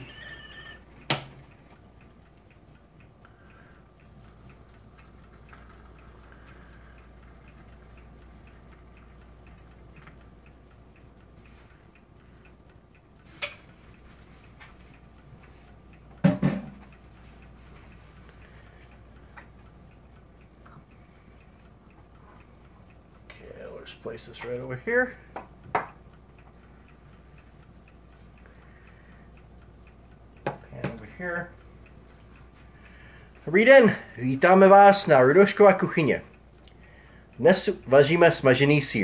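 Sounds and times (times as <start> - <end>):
faint ticking: 0.0 - 39.0.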